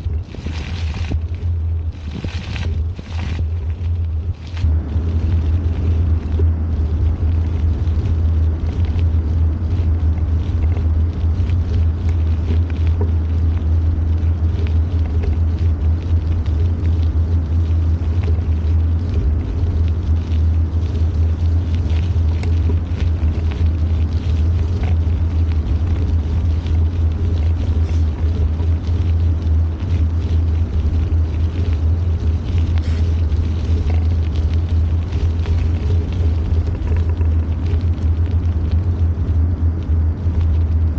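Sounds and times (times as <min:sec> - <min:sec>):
bicycle riding rumble: 0:00.0 - 0:40.9
small clicks and rattles: 0:00.0 - 0:40.9.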